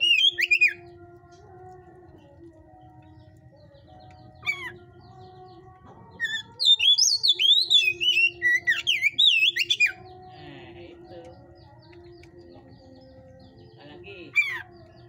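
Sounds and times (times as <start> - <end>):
bird singing whistled notes: 0.0 - 1.0, 3.0 - 15.0.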